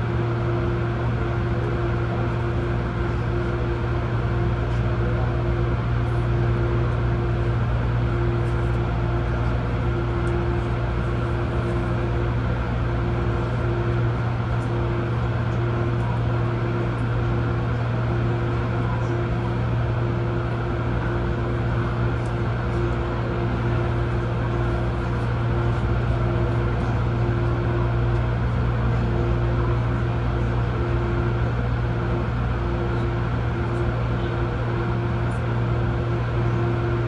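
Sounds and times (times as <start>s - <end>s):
train low hum: 0.0s - 37.0s.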